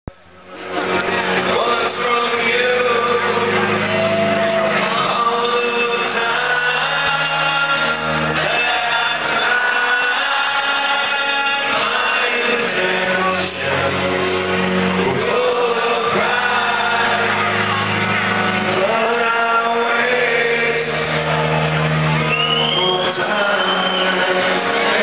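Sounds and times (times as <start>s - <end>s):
acoustic guitar: 0.1s - 25.0s
man singing: 1.3s - 14.3s, 15.0s - 17.7s, 18.7s - 21.2s, 22.6s - 25.0s.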